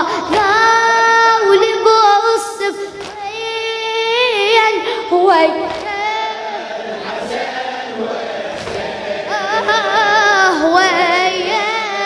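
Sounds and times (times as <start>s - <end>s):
chorus singing a lament: 0.0s - 12.0s.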